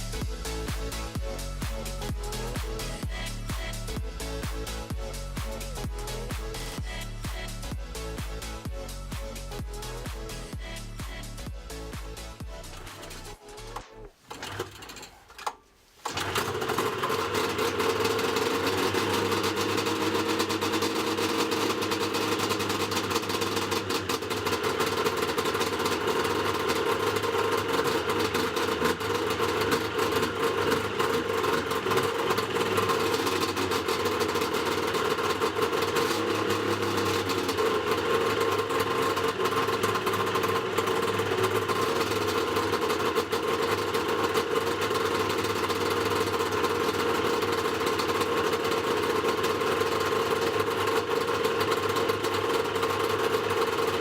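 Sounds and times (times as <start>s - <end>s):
snowmobile engine idling: 0.0s - 13.8s, 16.0s - 54.0s.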